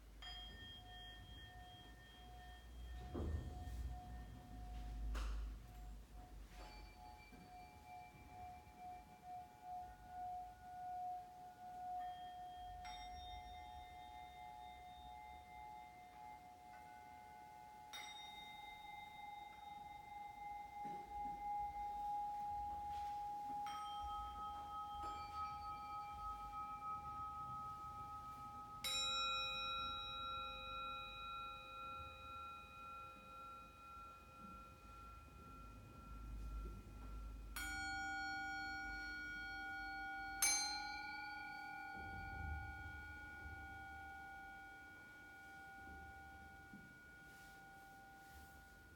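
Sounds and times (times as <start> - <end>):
metal singing bowls ringing: 0.0 - 48.9.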